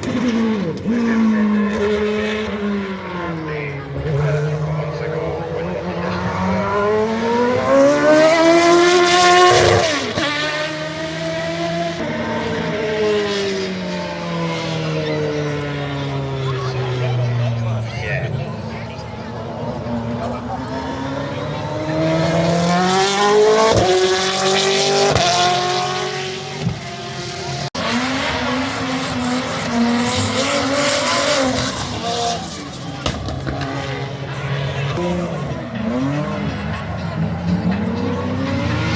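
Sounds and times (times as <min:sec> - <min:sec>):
racing engine accelerating: 0:00.0 - 0:38.9.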